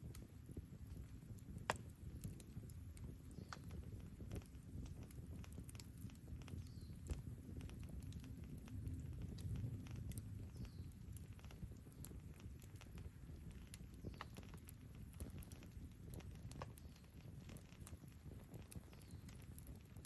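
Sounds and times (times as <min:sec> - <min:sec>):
campfire crackling and popping: 0:00.0 - 0:20.0
fire low steady rush: 0:00.0 - 0:20.0.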